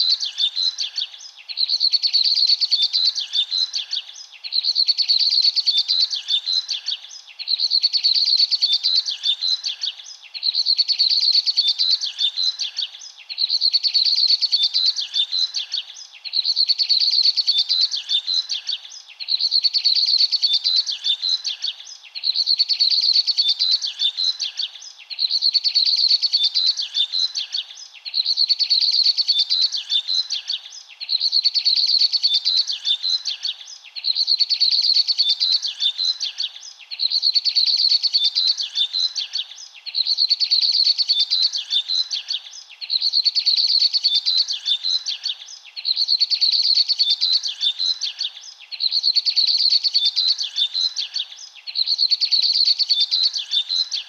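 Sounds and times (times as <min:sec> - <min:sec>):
bird chirping: 0:00.0 - 0:54.0
faint background hiss: 0:00.0 - 0:54.0.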